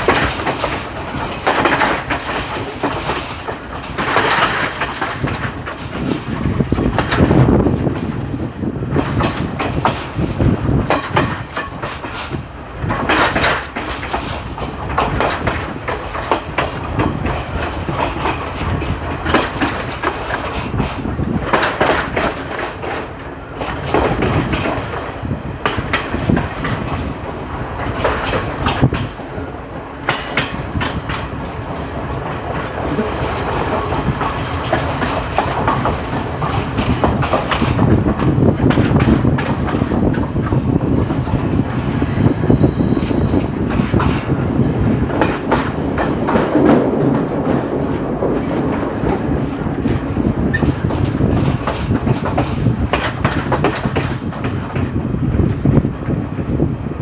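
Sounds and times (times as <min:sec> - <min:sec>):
train rumbling: 0:00.0 - 0:57.0
wheels clacking over rail joints: 0:00.0 - 0:57.0.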